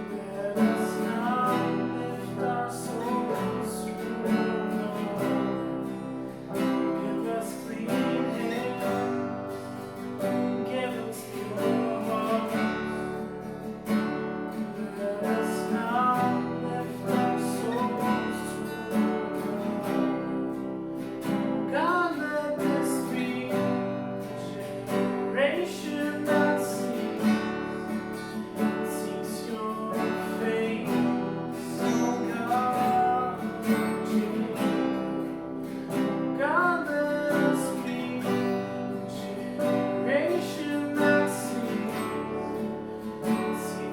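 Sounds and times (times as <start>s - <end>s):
strummed acoustic guitar song: 0.0s - 43.9s.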